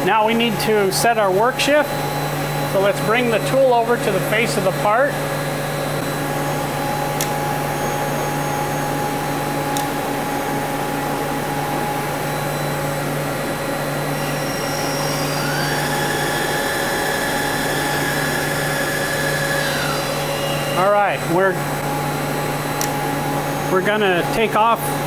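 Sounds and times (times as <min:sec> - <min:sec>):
lathe machine hum: 0:00.0 - 0:25.0
spindle whine: 0:00.0 - 0:25.0.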